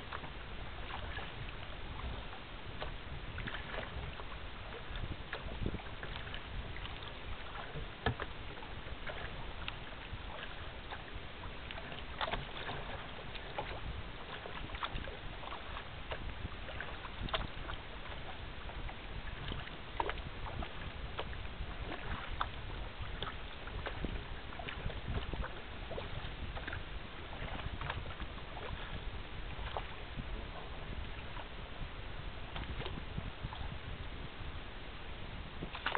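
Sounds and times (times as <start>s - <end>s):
low wind noise: 0.0s - 35.9s
rush of water: 0.0s - 35.9s
water splashing against kayak hull: 0.0s - 35.9s.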